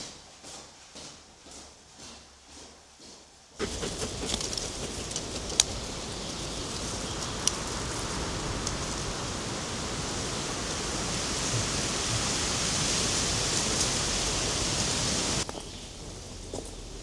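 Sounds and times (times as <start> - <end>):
steady hissing noise: 2.2 - 17.0.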